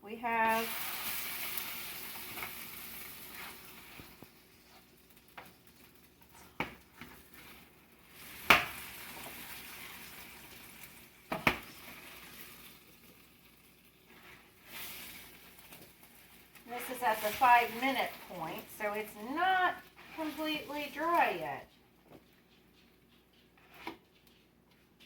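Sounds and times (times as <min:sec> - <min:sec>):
kernels sizzling on a baking sheet: 0:00.0 - 0:21.7.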